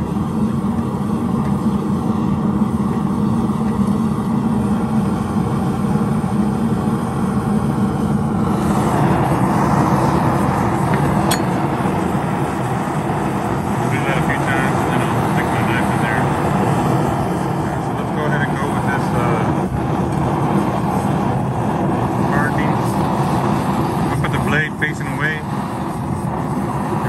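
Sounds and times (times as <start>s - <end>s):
gas forge burner roaring: 0.0s - 27.0s.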